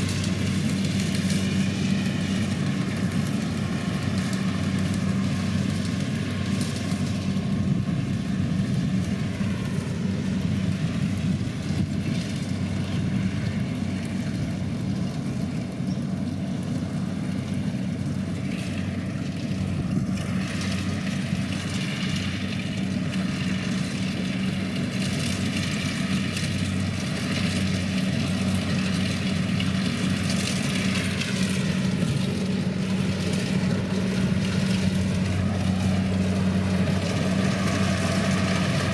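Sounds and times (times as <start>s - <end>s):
diesel engine hum: 0.0s - 38.9s.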